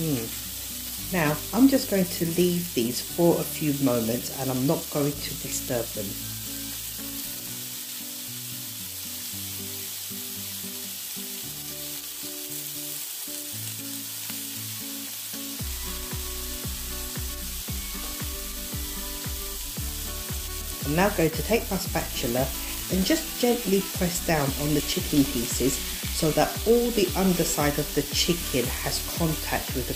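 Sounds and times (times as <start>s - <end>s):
background music: 0.0s - 11.1s, 13.6s - 29.9s
skewers sizzling in a pan: 0.0s - 29.9s.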